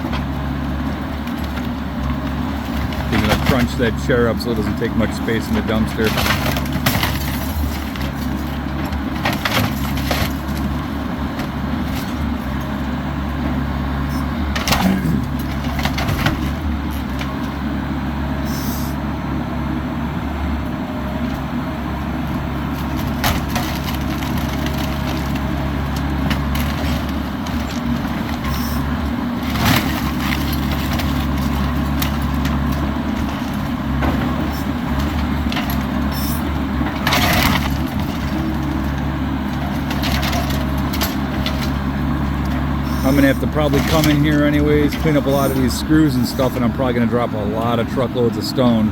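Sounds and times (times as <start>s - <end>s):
wood cracking and crunching: 0.0s - 17.6s, 22.3s - 48.9s
excavator diesel engine running: 0.0s - 48.9s.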